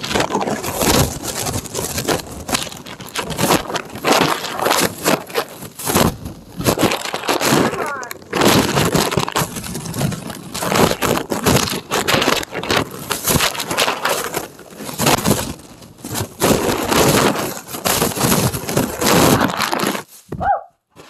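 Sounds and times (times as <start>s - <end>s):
bag crinkling and rustling: 0.0s - 21.0s.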